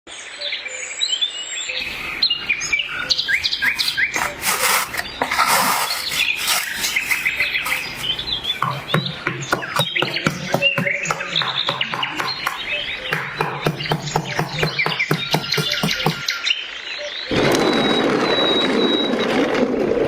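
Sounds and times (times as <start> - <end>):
birds chirping and singing: 0.1 - 17.4.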